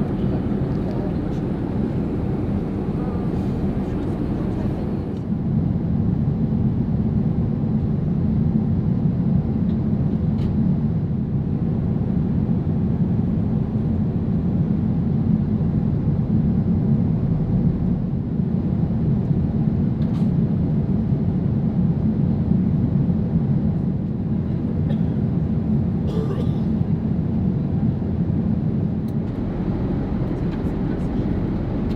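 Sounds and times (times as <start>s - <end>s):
airplane cabin rumble: 0.0s - 6.0s, 10.1s - 31.9s.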